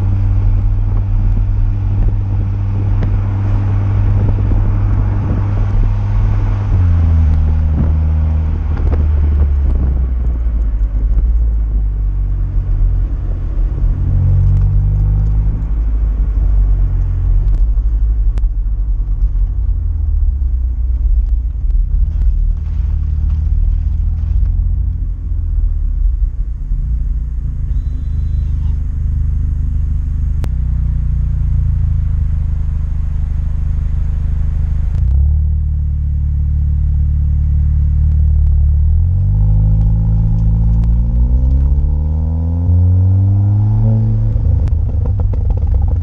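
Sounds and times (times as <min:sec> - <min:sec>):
car exhaust low rumble: 0:00.0 - 0:46.0.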